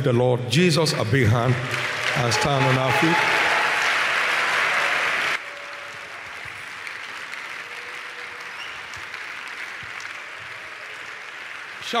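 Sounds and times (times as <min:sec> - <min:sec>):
audience applauding: 0:01.3 - 0:12.0
crowd noise: 0:01.4 - 0:12.0.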